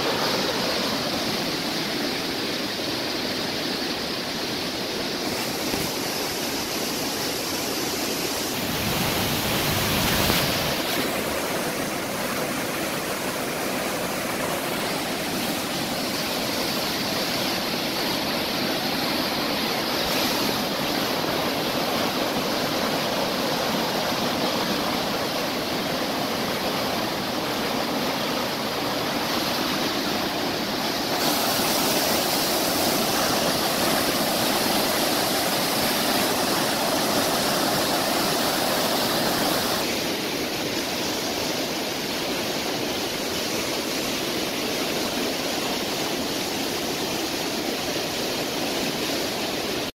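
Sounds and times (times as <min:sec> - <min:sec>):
floodwater rushing through rapids: 0:00.0 - 0:49.9.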